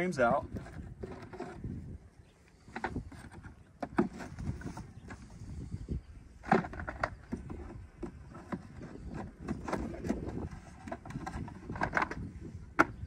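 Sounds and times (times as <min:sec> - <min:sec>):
wind rumble on microphone: 0:00.0 - 0:13.0
wood knocking and scraping on wood: 0:00.5 - 0:01.8, 0:02.6 - 0:05.5, 0:06.4 - 0:13.0.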